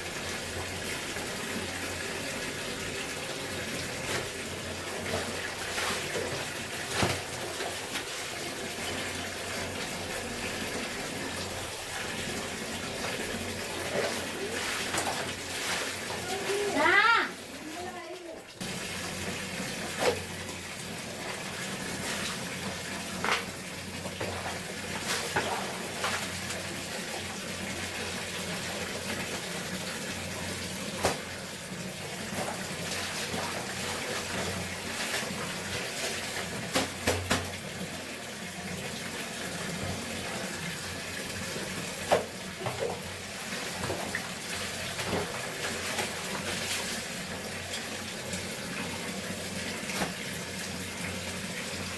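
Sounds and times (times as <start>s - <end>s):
water running from a tap: 0.0s - 51.9s.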